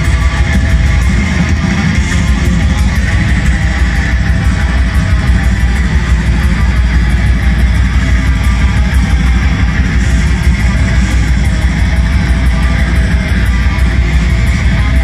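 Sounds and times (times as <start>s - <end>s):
electric guitars and bass: 0.0s - 15.0s
fast drum beat: 0.0s - 15.0s.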